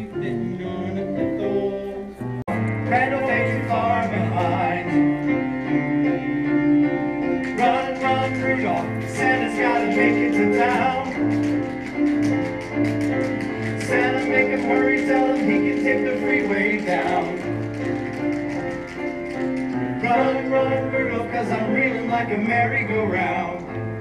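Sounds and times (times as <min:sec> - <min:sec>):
voices singing: 0:00.0 - 0:05.4, 0:07.4 - 0:18.6, 0:19.6 - 0:23.6
piano accompaniment: 0:00.0 - 0:24.0.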